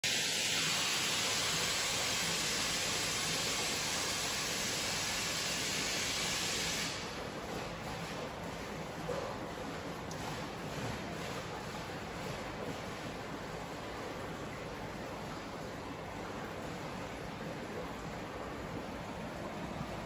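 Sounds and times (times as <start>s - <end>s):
water running and bubbling: 0.1s - 20.0s.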